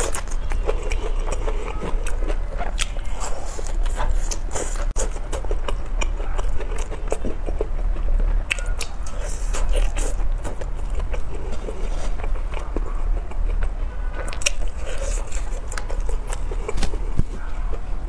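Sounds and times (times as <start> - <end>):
biting and chewing fried food: 0.0 - 18.0.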